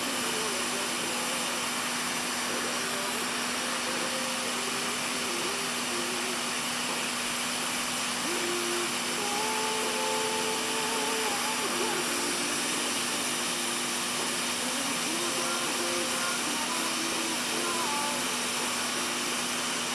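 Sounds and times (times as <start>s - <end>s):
blower rushing air: 0.0s - 19.9s.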